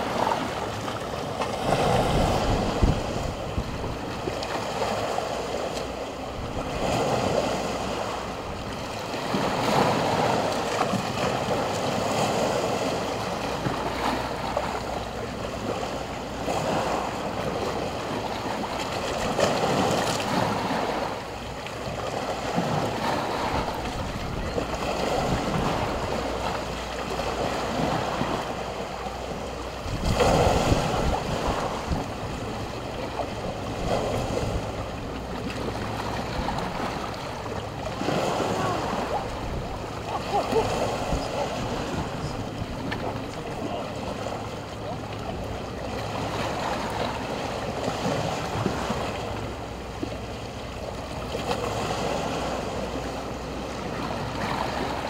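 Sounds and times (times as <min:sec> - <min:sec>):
sea waves lapping on stone beach: 0:00.0 - 0:55.0.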